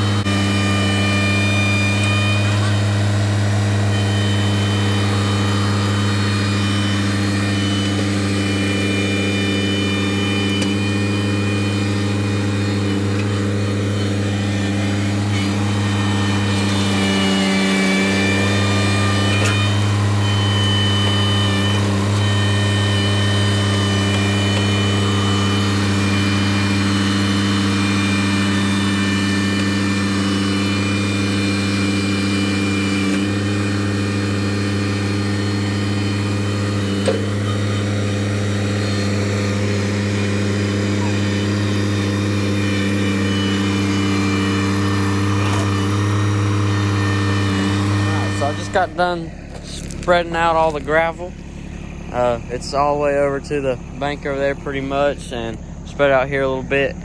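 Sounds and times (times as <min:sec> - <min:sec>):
high whine: 0:00.0 - 0:57.0
machine engine running: 0:00.0 - 0:57.0.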